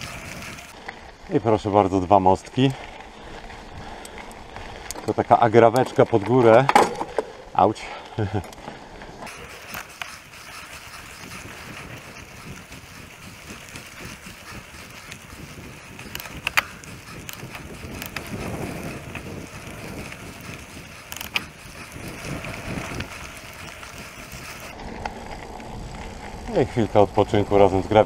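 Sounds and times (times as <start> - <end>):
bike rattling over bumps: 0.0 - 28.0
tyre and wind noise: 0.0 - 28.0.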